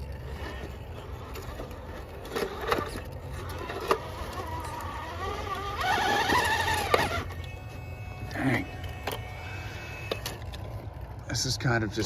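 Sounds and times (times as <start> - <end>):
electric motor whining: 0.0 - 11.2.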